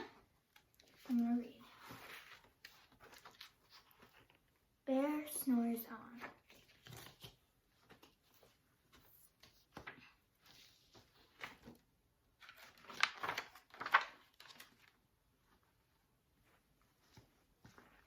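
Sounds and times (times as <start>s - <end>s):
picture book rustling: 0.0s - 18.0s.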